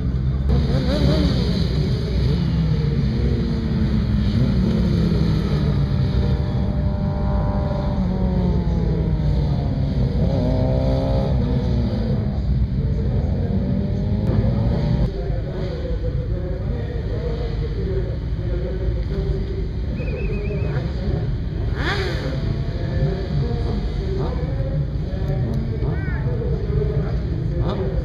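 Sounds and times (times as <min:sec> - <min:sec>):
racing motorcycles passing: 0:00.0 - 0:28.0
steady low rumble: 0:00.0 - 0:28.0.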